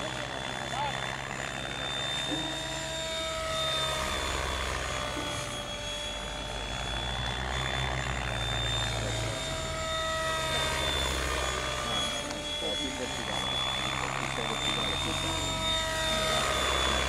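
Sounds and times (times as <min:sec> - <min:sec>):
model helicopter rotor whine: 0:00.0 - 0:17.0.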